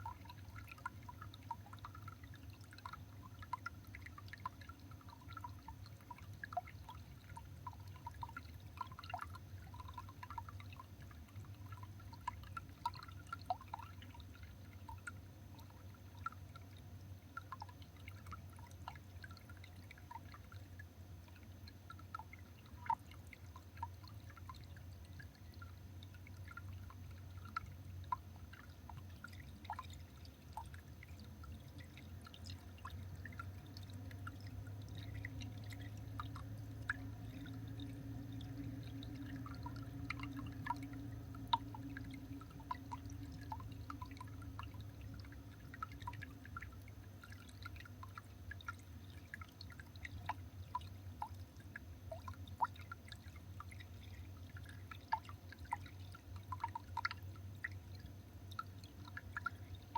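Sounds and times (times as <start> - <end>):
steady low hum: 0.0 - 59.9
water dripping: 0.0 - 59.9.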